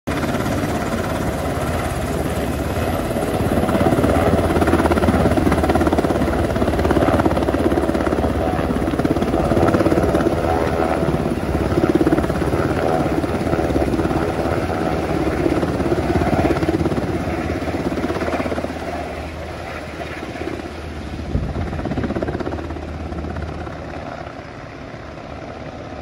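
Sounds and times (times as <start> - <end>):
helicopter rotor and engines: 0.0 - 26.0.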